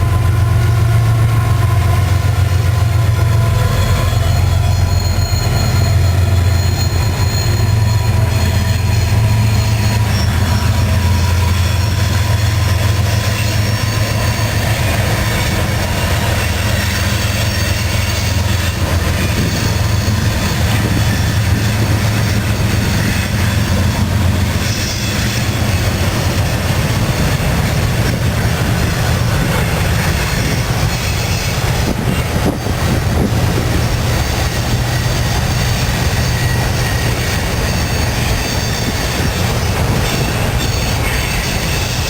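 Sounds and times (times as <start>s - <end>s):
diesel locomotive drone: 0.0s - 42.0s
freight cars rumbling by: 0.0s - 42.0s
wheel squeal: 2.7s - 42.0s.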